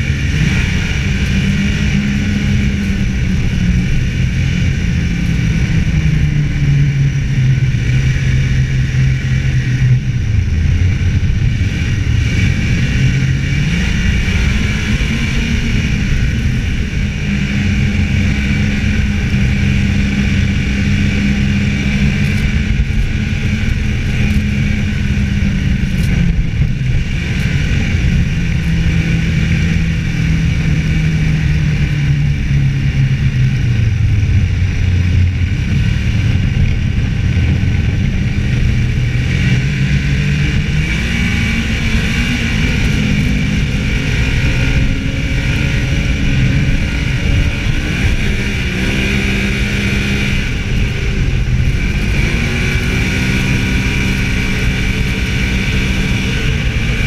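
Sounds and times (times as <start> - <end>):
hiss of wind and track: 0.0 - 57.0
snowmobile engine running: 0.0 - 57.0.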